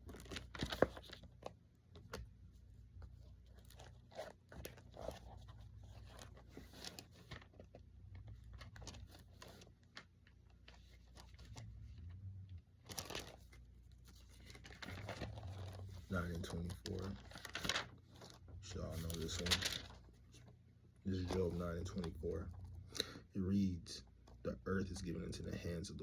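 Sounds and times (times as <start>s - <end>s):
paper pages rustling: 0.0s - 12.2s, 12.8s - 22.8s.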